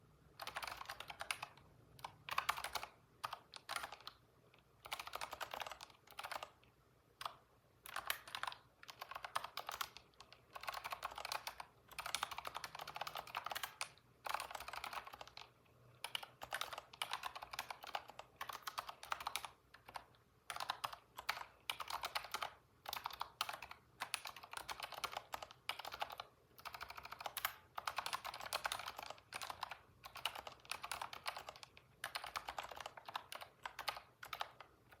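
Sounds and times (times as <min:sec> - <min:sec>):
computer keyboard typing: 0:00.3 - 0:35.0.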